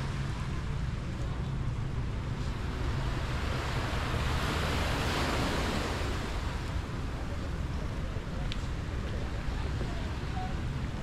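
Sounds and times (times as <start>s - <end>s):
ocean waves washing ashore: 0.0s - 11.0s.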